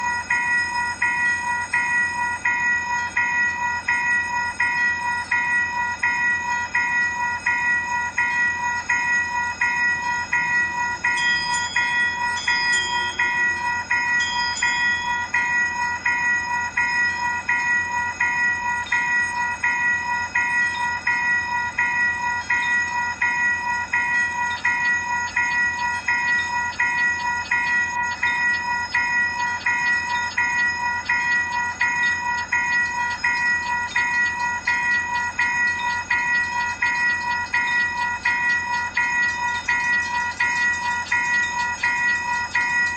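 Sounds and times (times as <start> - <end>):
railroad crossing bell ringing: 0.0 - 42.9.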